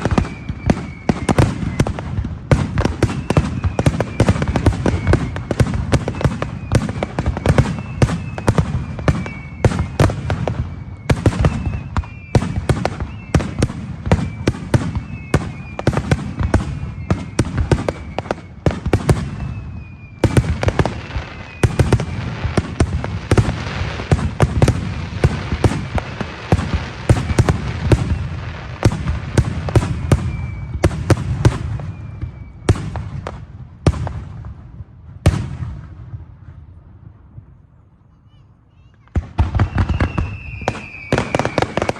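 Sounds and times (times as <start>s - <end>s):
descending firework whistles: 0.0s - 33.5s, 38.2s - 41.9s
firework crackle: 0.0s - 34.3s, 39.1s - 41.9s
fireworks bangs and bursts: 0.0s - 37.6s, 38.2s - 41.9s.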